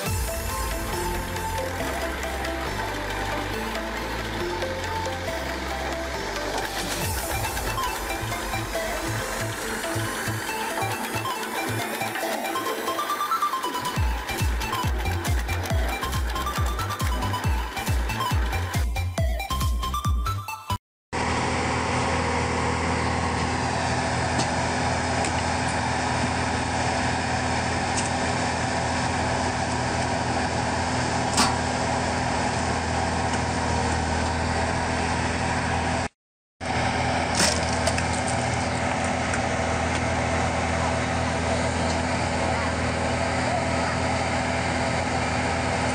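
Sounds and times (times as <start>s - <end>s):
diesel engine running: 0.0s - 20.0s, 21.2s - 45.9s.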